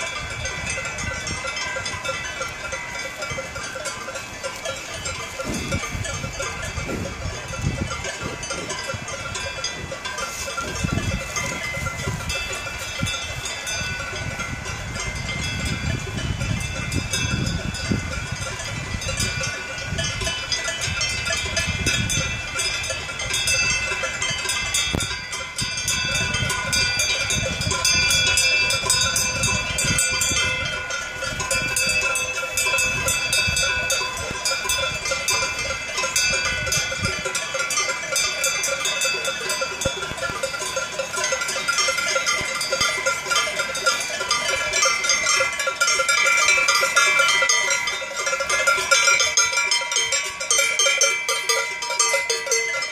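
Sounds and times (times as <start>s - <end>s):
cowbells ringing: 0.0s - 52.9s.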